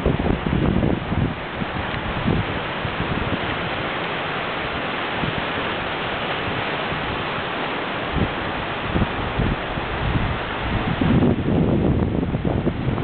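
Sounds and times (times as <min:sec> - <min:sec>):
wind buffeting microphone: 0:00.0 - 0:03.9, 0:04.6 - 0:13.0
fast-flowing river water rushing: 0:00.0 - 0:13.0.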